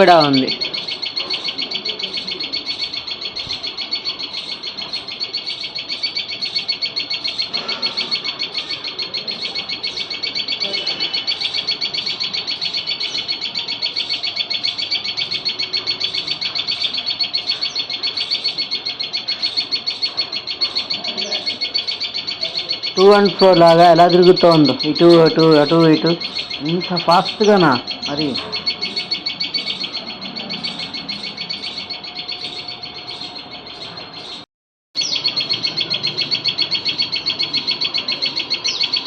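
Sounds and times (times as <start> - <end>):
songbird high chirps: 0.0 - 34.4, 35.0 - 39.0.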